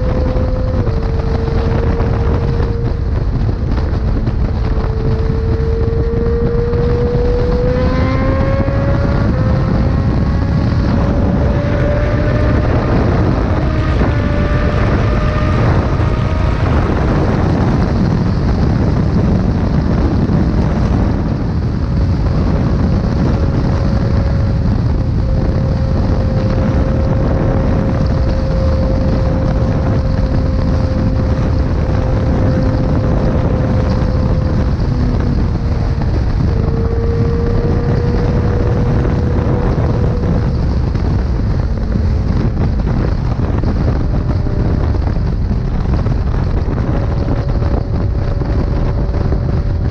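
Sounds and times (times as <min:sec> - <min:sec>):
motorcycle engine running hard: 0:00.0 - 0:49.9
wind rush on microphone: 0:00.0 - 0:49.9.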